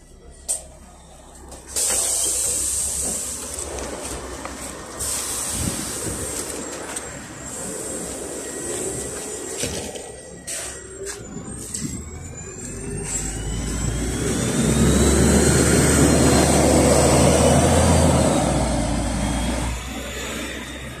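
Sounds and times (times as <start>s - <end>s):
bus engine pulling away: 0.0s - 21.0s
rising whine: 2.6s - 21.0s.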